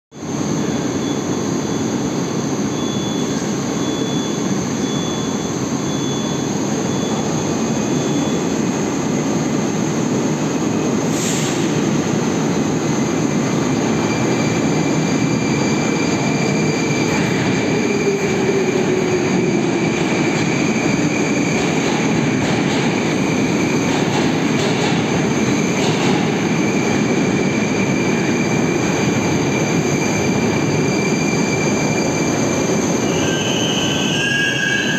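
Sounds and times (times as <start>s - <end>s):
falling whine of slowing train: 0.1s - 34.9s
high wheel squeal: 0.6s - 9.2s, 12.9s - 34.9s
train heavy rumble: 6.6s - 34.9s.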